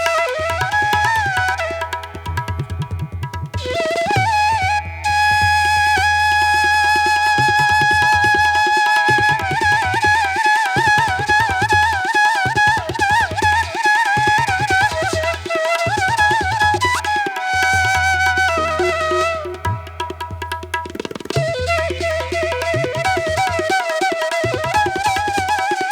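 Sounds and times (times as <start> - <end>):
flute melody: 0.0 - 25.9.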